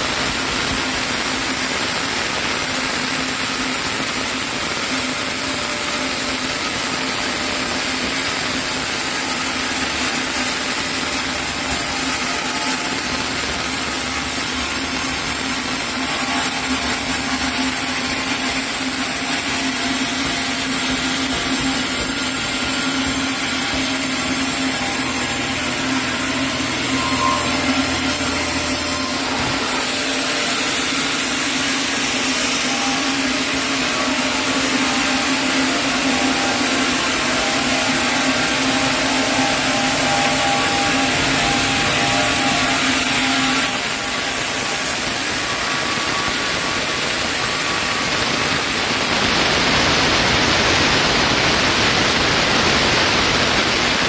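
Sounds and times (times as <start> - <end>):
sawmill saw cutting log: 2.6 - 54.0.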